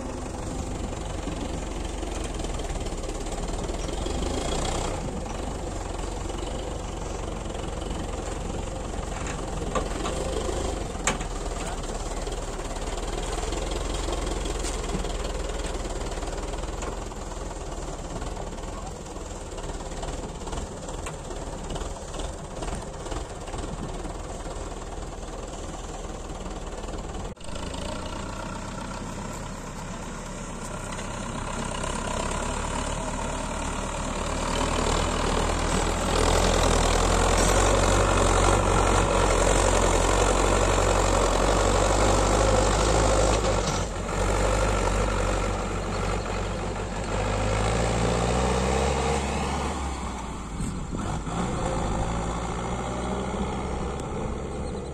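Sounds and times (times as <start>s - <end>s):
tractor diesel engine: 0.0s - 54.9s.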